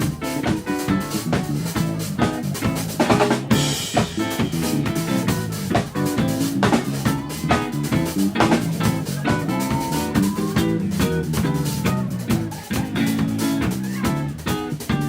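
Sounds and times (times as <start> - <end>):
drum kit: 0.0 - 15.0
guitar: 0.0 - 15.0.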